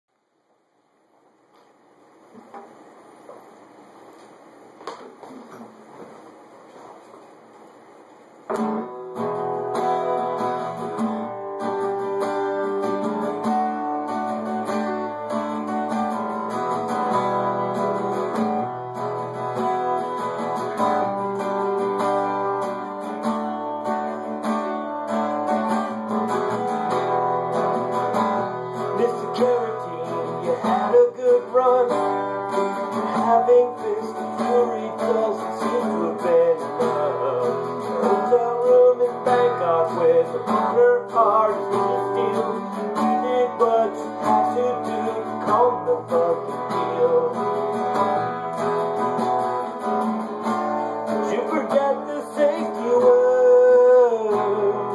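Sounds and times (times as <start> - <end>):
acoustic guitar strumming chords: 8.5 - 54.9
picked guitar notes: 8.5 - 54.9.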